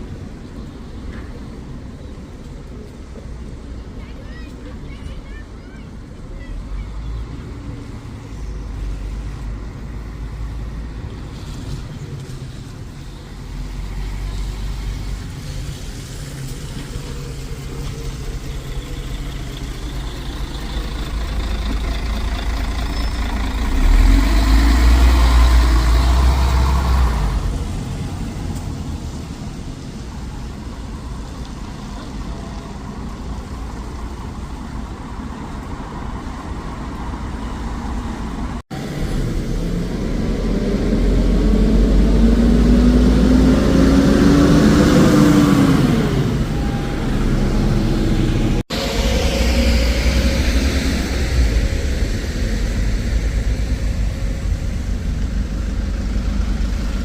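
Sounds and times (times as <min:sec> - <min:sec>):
road traffic: 0:00.0 - 0:57.0
heavy vehicle passing: 0:07.0 - 0:32.3, 0:36.1 - 0:57.0.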